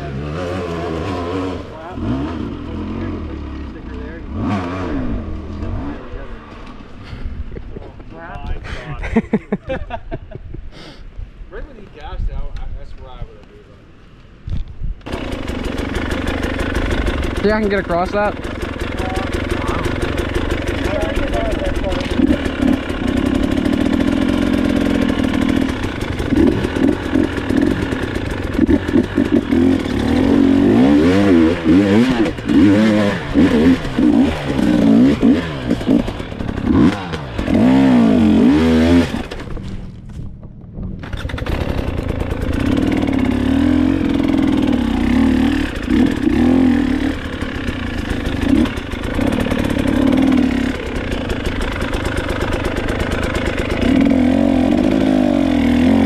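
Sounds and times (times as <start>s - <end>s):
dirt bike engine revving: 0.0s - 7.4s, 15.1s - 39.7s, 41.0s - 56.0s.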